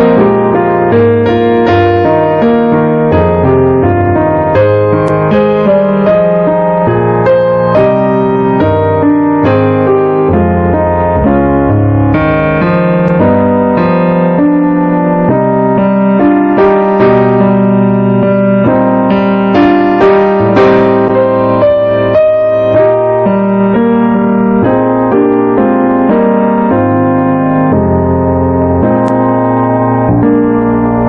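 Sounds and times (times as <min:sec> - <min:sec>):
slow piano piece: 0:00.0 - 0:31.0.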